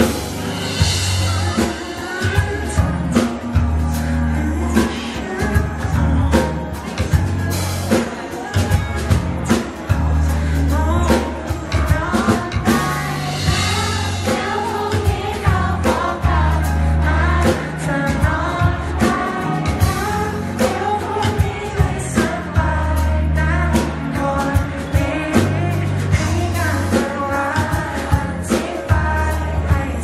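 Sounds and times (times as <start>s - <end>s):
bass: 0.0s - 30.0s
drum kit: 0.0s - 30.0s
man singing into microphone: 0.8s - 30.0s.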